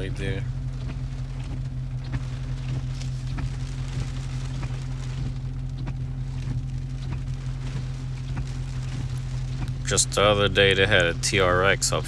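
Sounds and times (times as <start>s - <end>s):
faint ticks: 0.0s - 11.2s
car engine and road drone: 0.0s - 12.0s.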